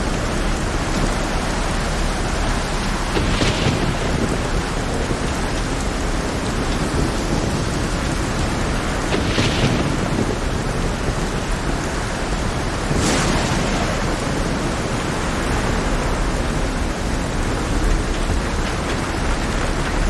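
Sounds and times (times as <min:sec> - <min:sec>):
heavy rain hiss: 0:00.0 - 0:20.0
louder rush of water: 0:00.0 - 0:20.0
rough sea rumble: 0:00.0 - 0:20.0.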